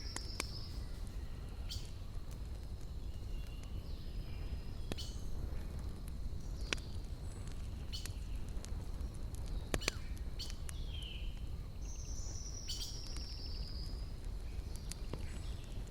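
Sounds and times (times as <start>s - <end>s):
campfire crackling: 0.0s - 15.9s.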